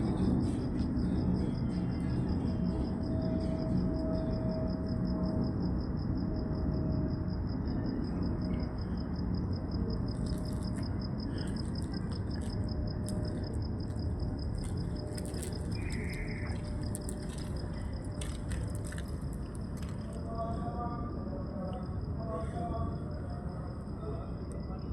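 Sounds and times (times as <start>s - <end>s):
cricket trilling: 0.0s - 24.9s
low background rumble: 0.0s - 24.9s.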